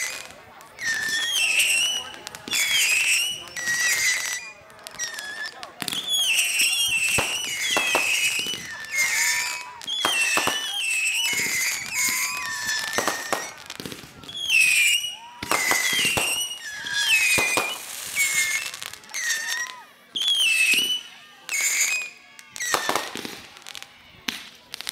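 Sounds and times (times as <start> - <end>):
falling fireworks whistle: 0.0 - 24.9
fireworks bangs: 0.0 - 24.9.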